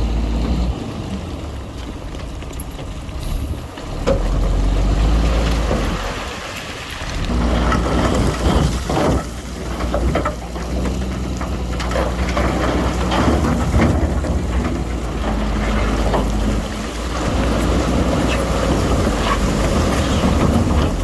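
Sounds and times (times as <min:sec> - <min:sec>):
diesel engine running: 0:00.0 - 0:21.0
rocks and gravel rattling: 0:00.0 - 0:21.0.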